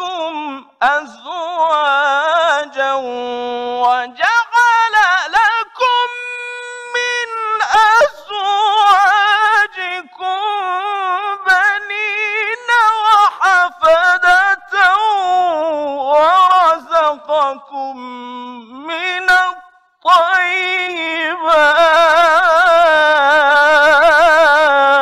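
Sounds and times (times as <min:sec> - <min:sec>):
man chanting melodically: 0:00.0 - 0:25.0.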